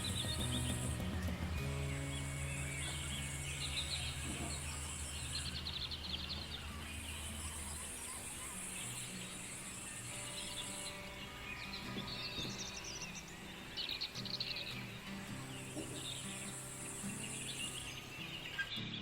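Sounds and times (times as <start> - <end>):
high insect buzz: 0.0 - 18.8
low steady drone: 0.0 - 18.8
birds chirping: 0.0 - 19.0.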